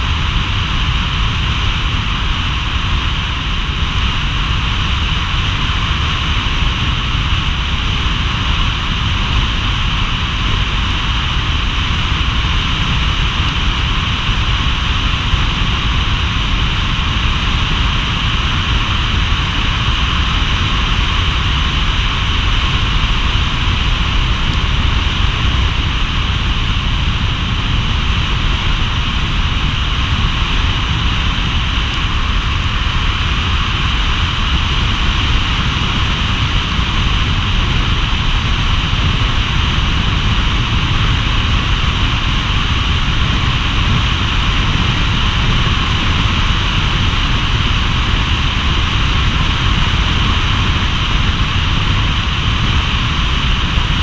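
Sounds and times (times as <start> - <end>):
tyre noise on wet road: 0.0 - 54.0
wind noise on microphone: 0.0 - 54.0.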